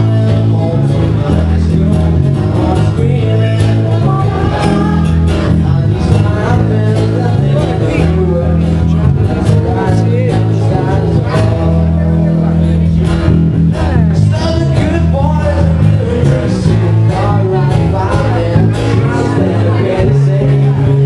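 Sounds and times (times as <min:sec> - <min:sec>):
person singing: 0:00.0 - 0:13.1, 0:13.7 - 0:21.0
bass guitar: 0:00.0 - 0:21.0
electric guitars: 0:00.0 - 0:21.0.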